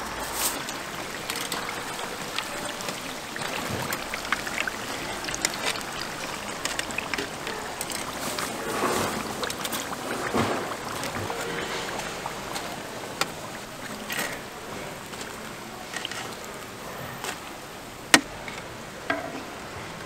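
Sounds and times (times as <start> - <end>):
food deep-frying in hot oil: 0.0 - 18.2.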